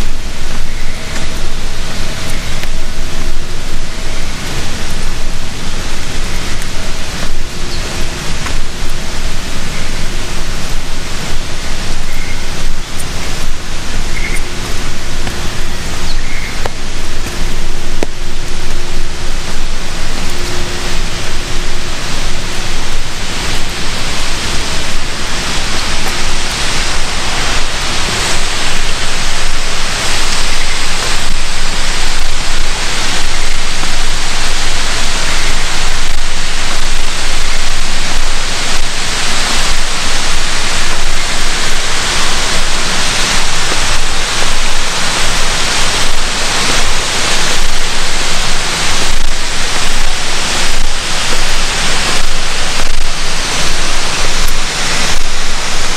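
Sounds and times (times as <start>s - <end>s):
rushing water: 0.0s - 55.9s.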